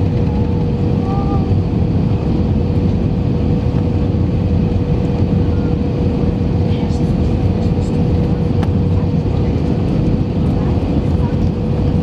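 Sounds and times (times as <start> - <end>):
airplane cabin airflow and engines: 0.0 - 12.0
mid-pitched hum: 0.0 - 12.0.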